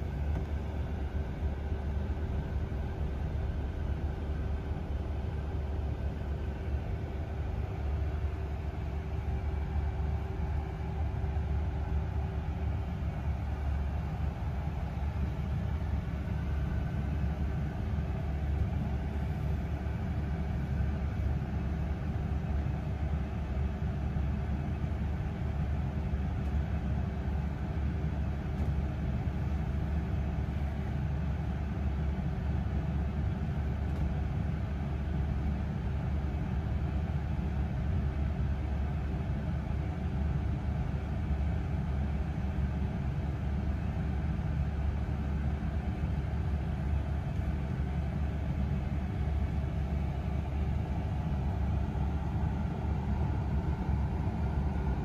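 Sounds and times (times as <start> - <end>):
bus engine rumble: 0.0 - 55.0
faint steady hum: 0.0 - 55.0.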